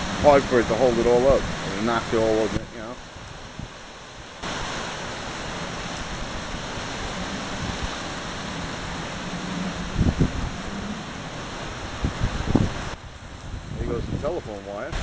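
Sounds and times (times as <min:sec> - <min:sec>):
storm wind rushing: 0:00.0 - 0:15.0.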